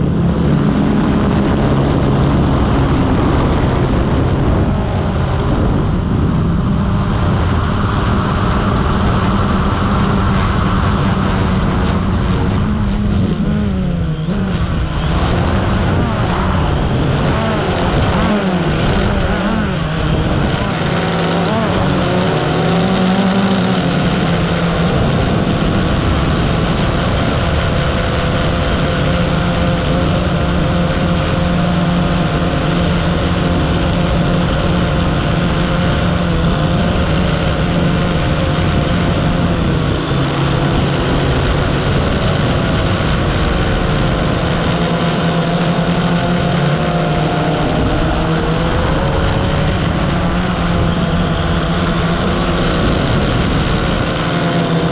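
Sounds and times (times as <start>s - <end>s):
drone motors and propellers: 0.0s - 54.9s
wind rushing past microphone: 0.0s - 54.9s.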